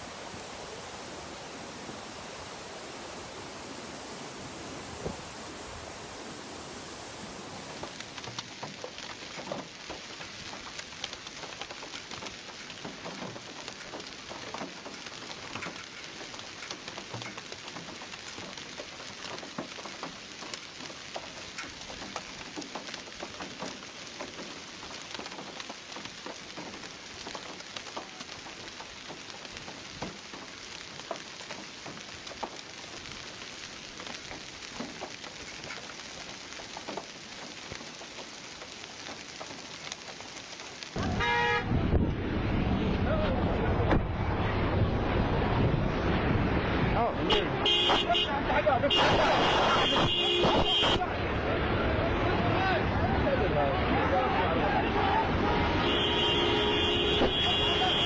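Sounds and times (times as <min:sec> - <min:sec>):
heavy rain on hard surfaces: 0:00.0 - 0:58.0.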